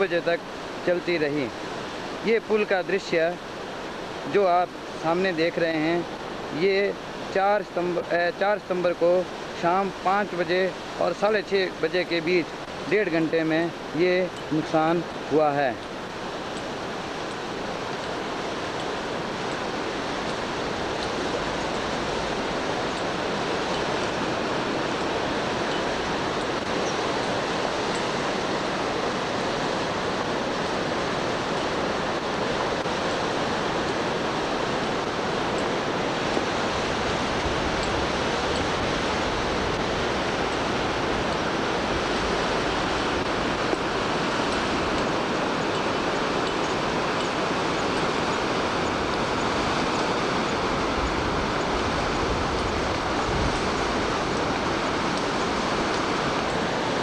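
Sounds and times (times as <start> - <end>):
mountain stream rushing over boulders: 0.0 - 57.0.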